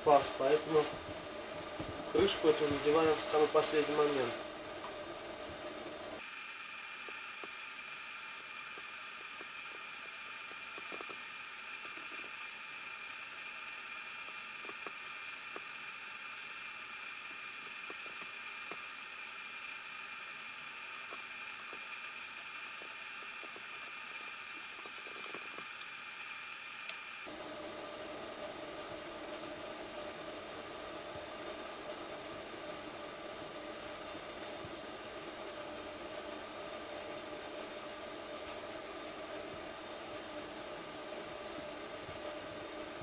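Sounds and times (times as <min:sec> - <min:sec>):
faint high whine: 0:00.0 - 0:43.0
steady hiss: 0:00.0 - 0:43.0.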